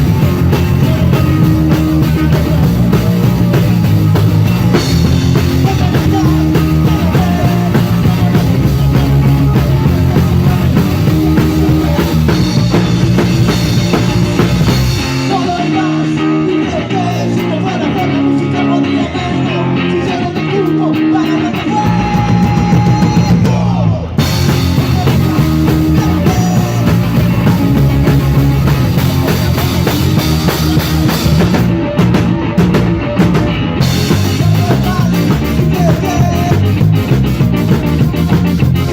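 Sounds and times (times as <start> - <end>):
live rock band playing: 0.0 - 38.9
melodic guitar lead line: 0.0 - 38.9.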